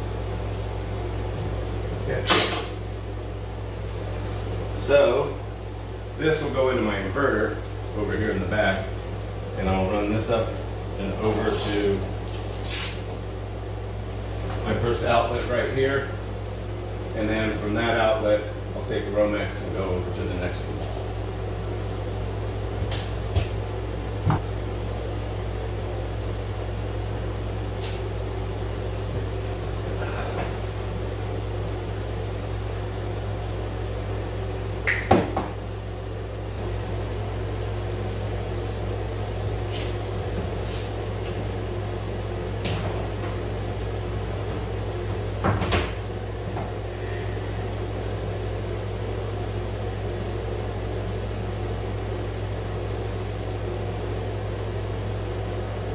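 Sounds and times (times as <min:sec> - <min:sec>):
air conditioner humming: 0:00.0 - 0:55.9.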